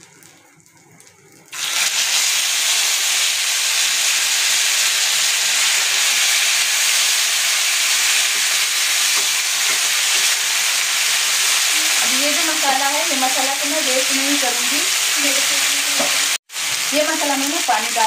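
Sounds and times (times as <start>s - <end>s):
chicken sizzling in hot oil: 1.5s - 18.0s.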